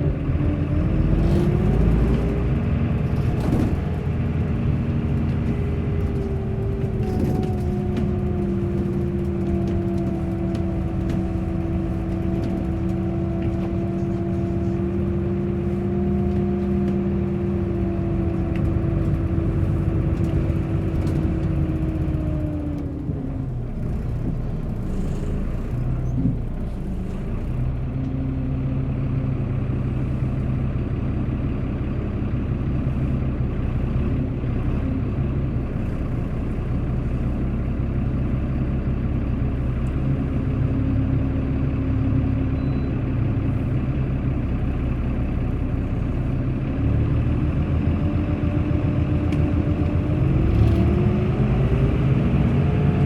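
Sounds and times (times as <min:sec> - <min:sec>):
bus engine hum: 0:00.0 - 0:53.0.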